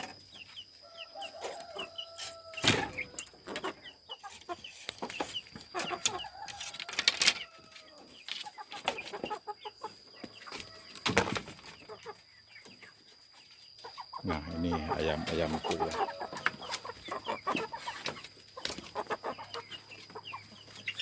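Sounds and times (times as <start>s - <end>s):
chickens clucking and calling: 0.0s - 21.0s.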